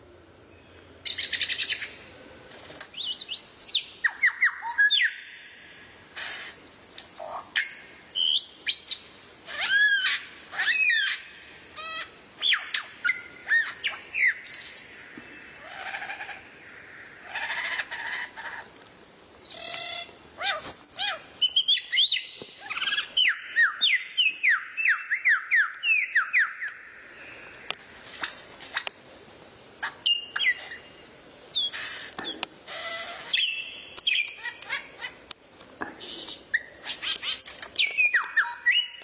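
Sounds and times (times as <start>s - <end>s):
songbird singing: 0.0s - 29.2s, 29.8s - 39.0s.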